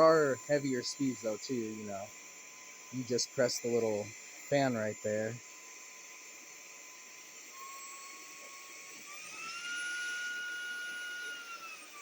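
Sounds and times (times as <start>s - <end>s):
stick vacuum motor whining: 0.0s - 12.0s.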